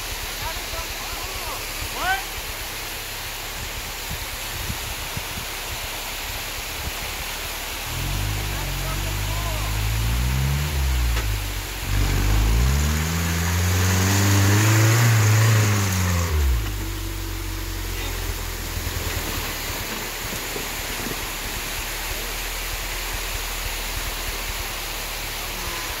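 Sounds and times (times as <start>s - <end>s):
buggy engine revving: 0.0s - 26.0s
water flowing over rock: 0.0s - 26.0s.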